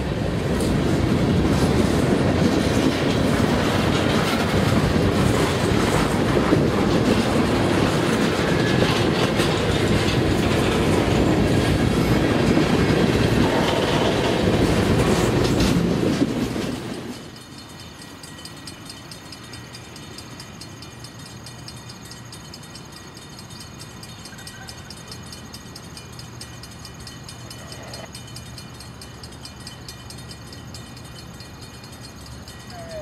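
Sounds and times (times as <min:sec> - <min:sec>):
wheels clicking over rail joints: 0:00.0 - 0:33.0.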